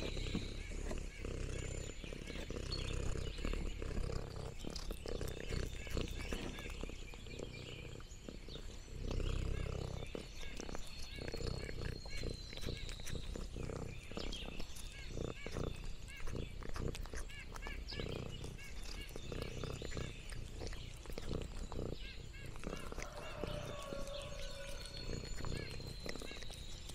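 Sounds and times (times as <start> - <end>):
cat chewing and biting: 0.0 - 26.9.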